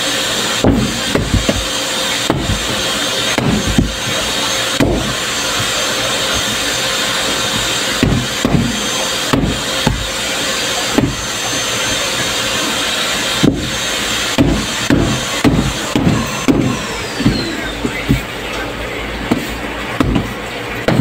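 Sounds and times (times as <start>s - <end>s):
loud background noise: 0.0s - 21.0s
dull thumps: 0.6s - 11.4s, 13.3s - 18.4s, 19.2s - 21.0s.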